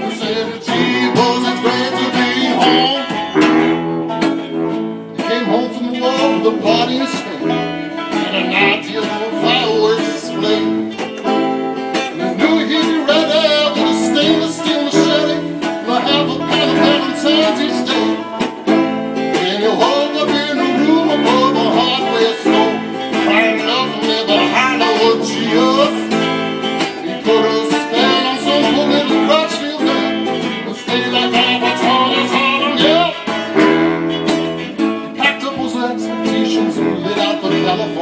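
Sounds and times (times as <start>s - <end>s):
banjo: 0.0s - 38.0s
electric guitar: 0.0s - 38.0s
saxophone: 0.0s - 38.0s
strummed acoustic guitar: 0.0s - 38.0s.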